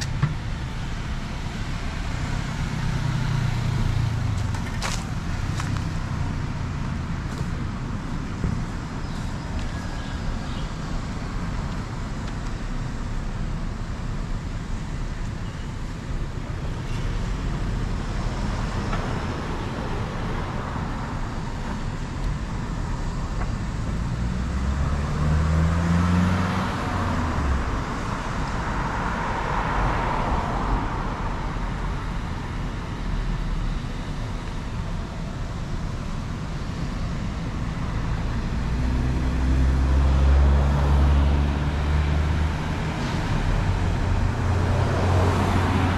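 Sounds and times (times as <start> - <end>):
cars passing: 0.0 - 15.0, 16.0 - 45.9
steady low traffic rumble: 0.0 - 45.9.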